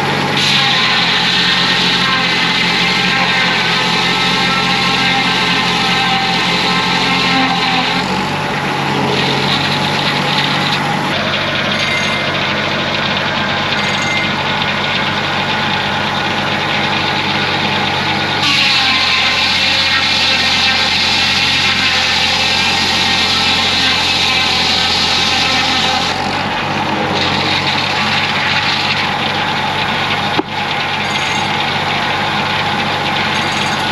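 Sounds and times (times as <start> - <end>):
bandsaw sawmill humming: 0.0 - 33.9.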